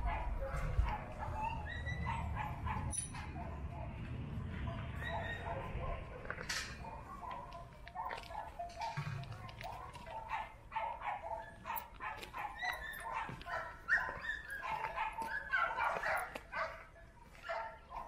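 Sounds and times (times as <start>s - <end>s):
dogs whining and yipping: 0.0s - 3.6s, 4.7s - 6.0s, 6.8s - 16.4s
dogs barking: 0.0s - 18.0s.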